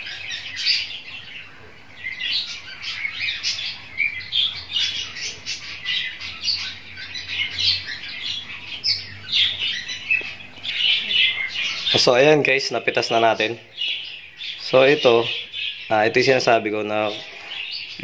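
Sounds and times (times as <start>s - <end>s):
caged birds chirping and squawking: 0.0s - 18.0s.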